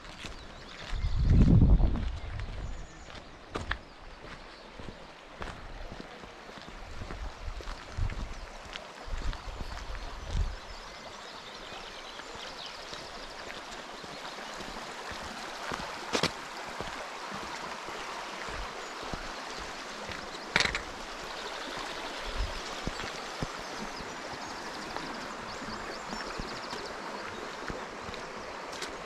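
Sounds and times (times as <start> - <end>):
stream running over stones: 0.0 - 29.0.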